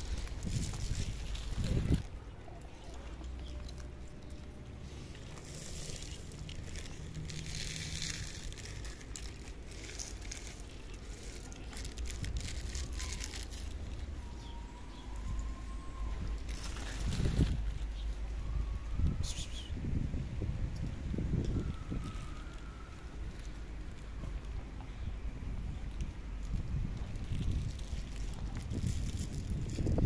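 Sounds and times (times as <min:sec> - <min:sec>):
cats crunching dry kibble: 0:00.0 - 0:18.2, 0:21.2 - 0:30.0.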